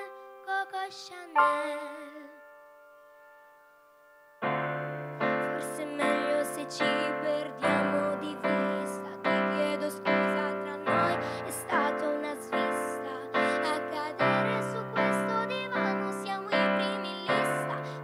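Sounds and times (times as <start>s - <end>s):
digital piano chords: 0.0s - 18.0s.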